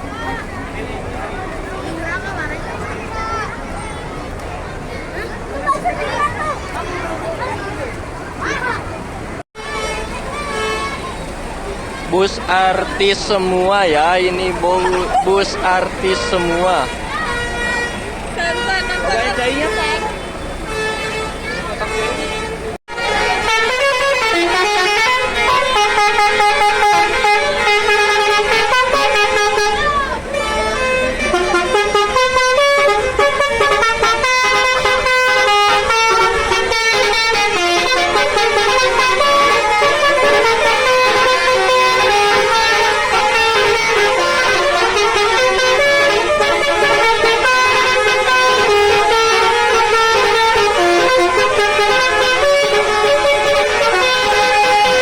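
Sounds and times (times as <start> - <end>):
musical air horn playing tune: 9.6 - 11.3, 12.1 - 55.0.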